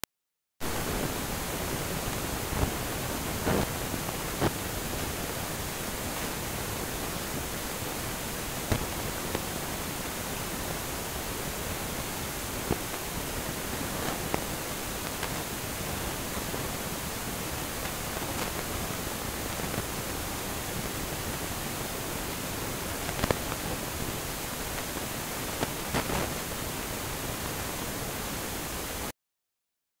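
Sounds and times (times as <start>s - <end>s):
steady recording hiss: 0.6s - 29.1s.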